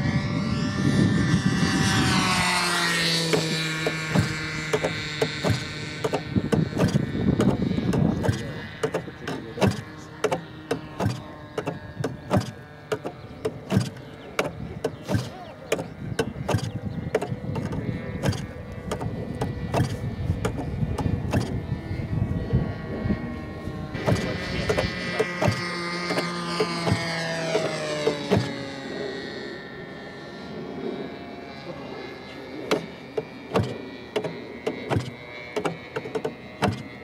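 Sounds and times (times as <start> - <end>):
model plane engine running: 0.0 - 37.0.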